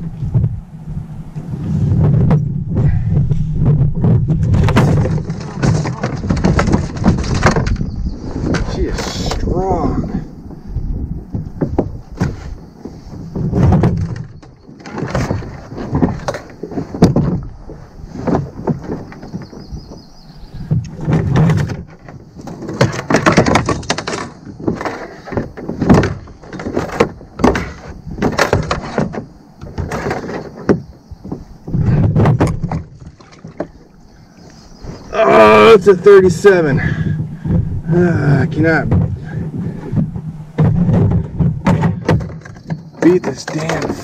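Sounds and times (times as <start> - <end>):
heavy thuds: 1.3 - 33.8, 34.8 - 44.0
knocks and scrapes on plastic deck: 1.4 - 9.6, 10.5 - 35.1, 36.3 - 44.0.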